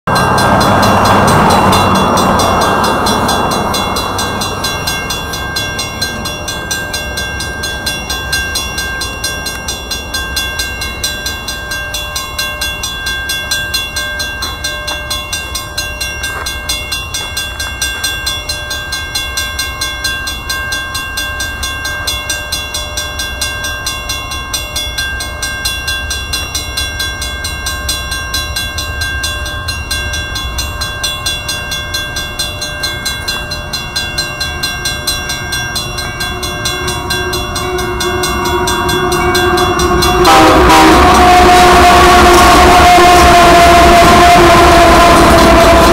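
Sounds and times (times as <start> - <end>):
railroad crossing bell ringing: 0.1 - 45.9.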